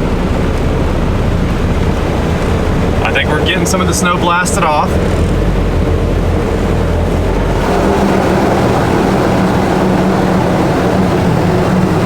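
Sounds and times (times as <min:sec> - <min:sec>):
steady machine hum: 0:00.0 - 0:12.0
water jets rushing: 0:00.0 - 0:12.0.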